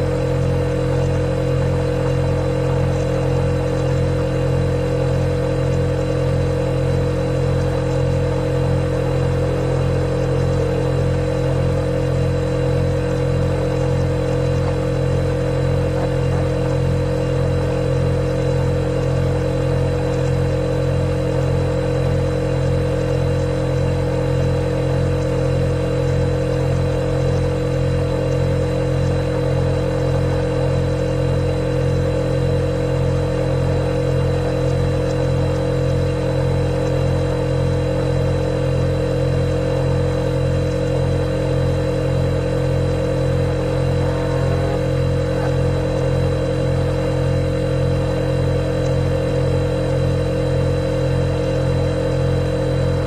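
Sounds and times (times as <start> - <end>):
refrigerator compressor humming: 0.0 - 53.0.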